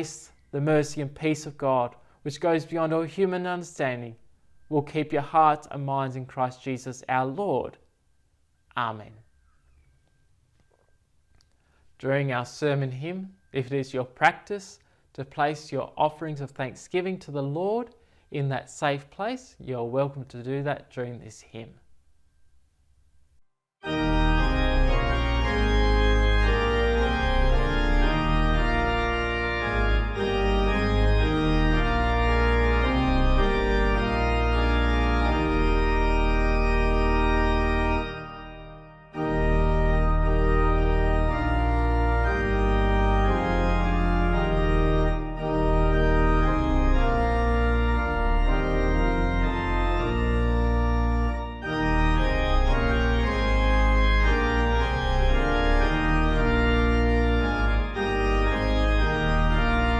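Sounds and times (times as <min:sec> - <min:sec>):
organ playing a hymn: 0:00.0 - 0:07.7, 0:08.8 - 0:14.6, 0:23.8 - 0:59.9.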